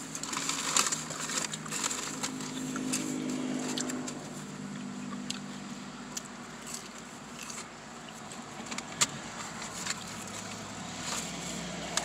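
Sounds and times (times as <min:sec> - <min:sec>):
paper box crinkling and crunching: 0:00.0 - 0:05.6, 0:06.2 - 0:12.0.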